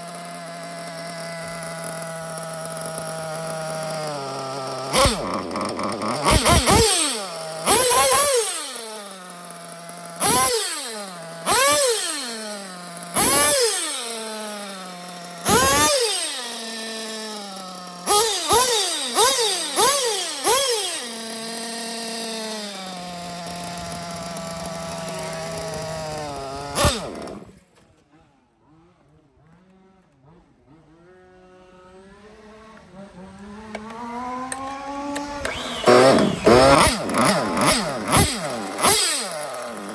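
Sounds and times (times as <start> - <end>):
faint engine sound: 0.0 - 39.9
rc buggy engine revving: 0.0 - 39.9.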